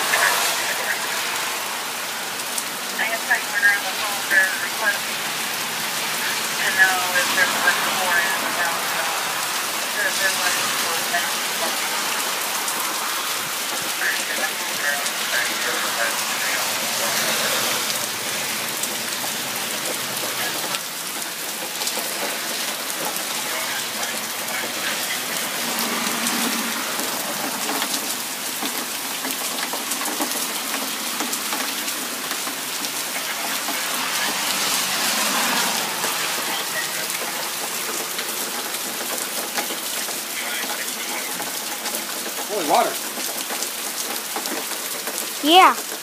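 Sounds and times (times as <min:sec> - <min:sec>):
heavy rain pattering: 0:00.0 - 0:46.0.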